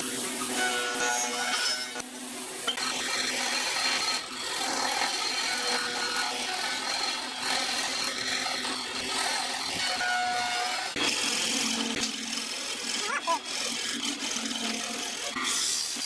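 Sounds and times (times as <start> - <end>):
power tool rasping wood: 0.0 - 2.1, 2.7 - 16.0.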